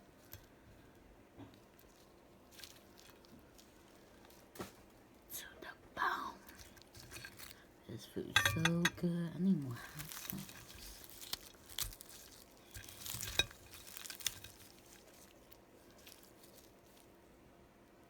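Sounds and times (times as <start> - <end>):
crinkling: 0.1 - 5.3, 6.4 - 17.4.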